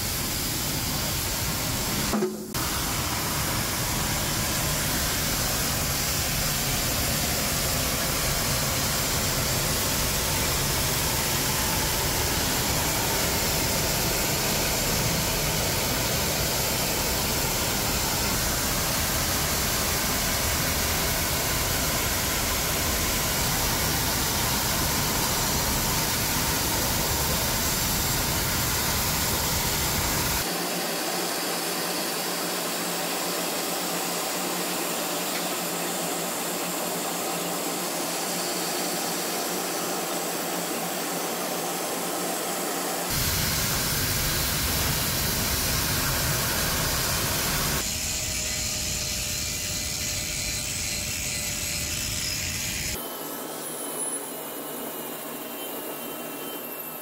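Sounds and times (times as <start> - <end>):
cutting torch gas jet hissing: 0.0 - 53.4.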